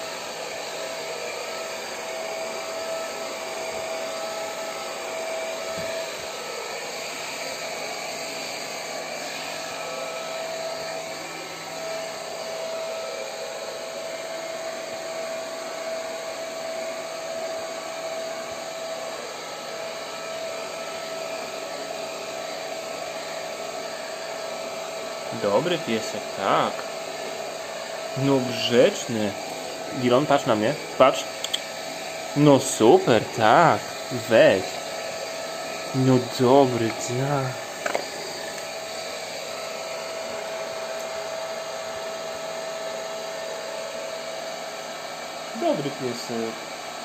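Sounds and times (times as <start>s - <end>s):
hair dryer blowing: 0.0s - 47.0s.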